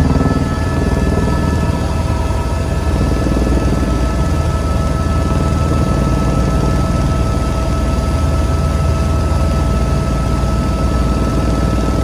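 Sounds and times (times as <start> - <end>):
constant whine: 0.0 - 12.0
helicopter engine and rotor drone: 0.0 - 12.0.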